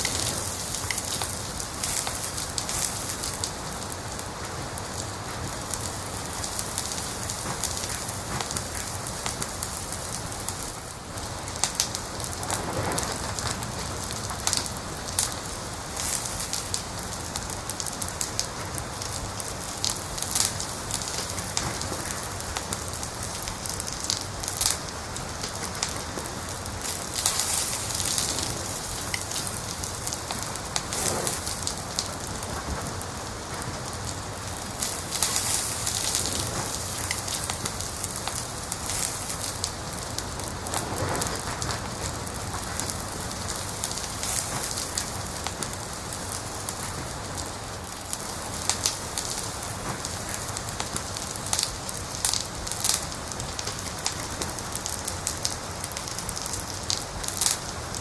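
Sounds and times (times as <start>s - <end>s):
fire popping: 0.0s - 58.0s
wood fire crackling: 0.0s - 58.0s.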